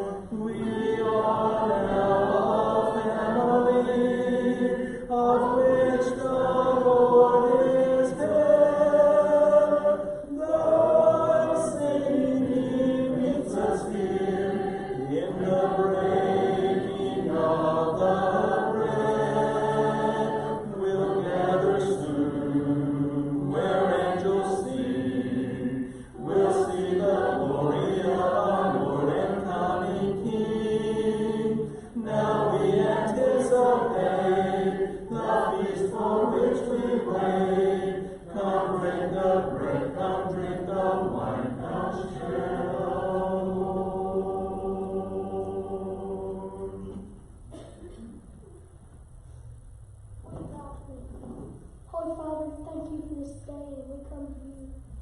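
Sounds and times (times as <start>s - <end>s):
congregation singing a hymn: 0.0s - 48.3s.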